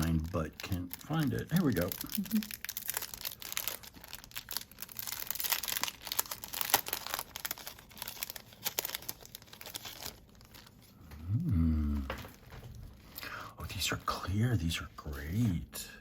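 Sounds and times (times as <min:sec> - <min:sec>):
packaging crinkling: 0:00.0 - 0:11.3, 0:11.9 - 0:14.5.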